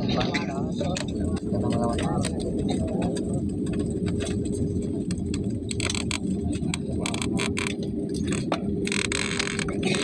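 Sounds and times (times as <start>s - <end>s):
jet cabin rumble: 0.0s - 10.0s
sharp clicks and rattles: 0.0s - 10.0s.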